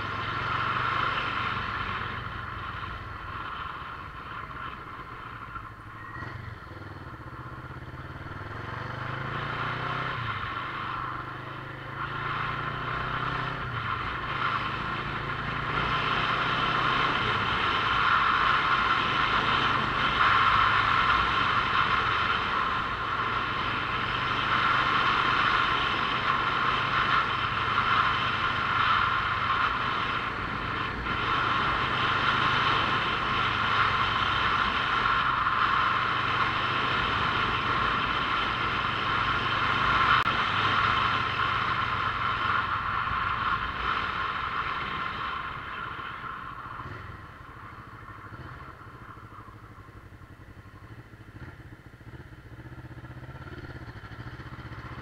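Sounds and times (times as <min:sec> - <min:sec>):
motorcycle engine hum: 0:00.0 - 0:55.0
ride noise: 0:00.0 - 0:55.0.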